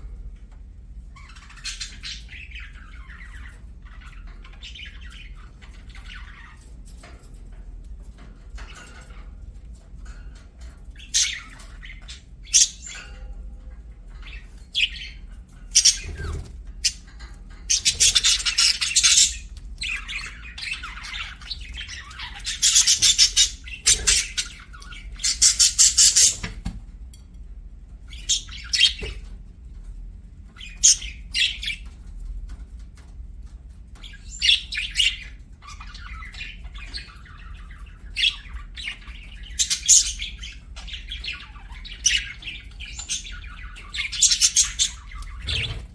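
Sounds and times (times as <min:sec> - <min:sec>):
budgerigars chirping and chattering: 0:01.0 - 0:13.3, 0:13.9 - 0:26.7, 0:27.9 - 0:45.9.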